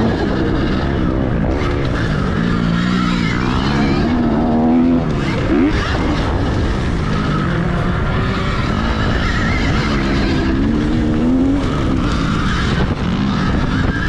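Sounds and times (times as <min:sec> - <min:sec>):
dirt bike engines accelerating: 0:00.0 - 0:14.0
steady rushing noise: 0:00.0 - 0:14.0.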